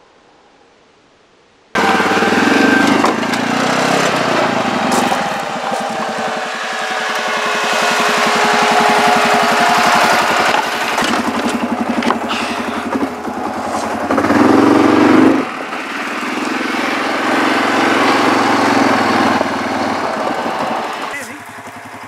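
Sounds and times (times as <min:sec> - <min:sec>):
atv engine running: 0:01.8 - 0:22.0.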